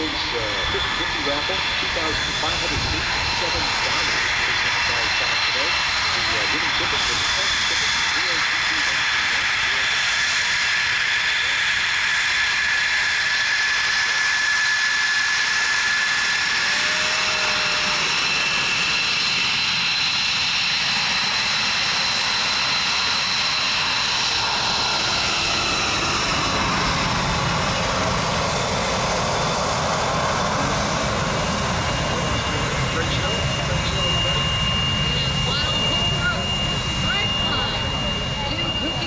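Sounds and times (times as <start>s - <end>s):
jet engine passing by: 0.0s - 39.0s.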